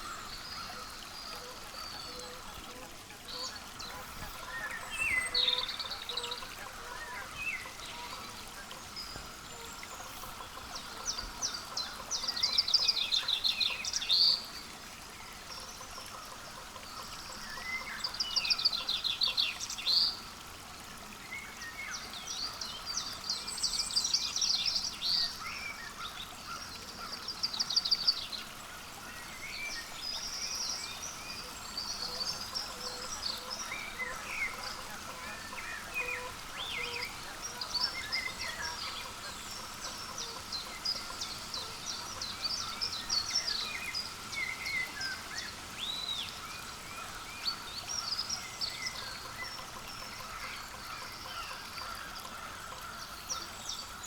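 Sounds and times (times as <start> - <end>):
faint steady outdoor hum: 0.0 - 54.0
songbirds calling and singing: 0.0 - 54.0.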